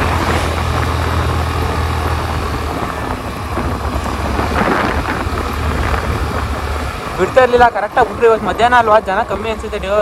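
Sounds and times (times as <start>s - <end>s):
scooter engine: 0.0s - 10.0s
wind buffeting microphone: 0.0s - 10.0s.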